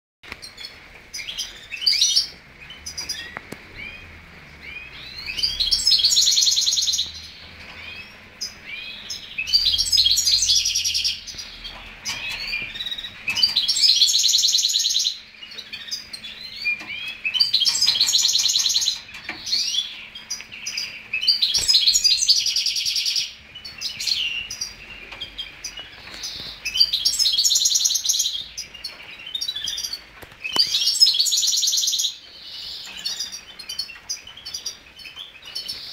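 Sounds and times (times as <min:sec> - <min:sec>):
finch twittering: 0:00.4 - 0:35.9
loud fast finch trill: 0:02.9 - 0:34.8.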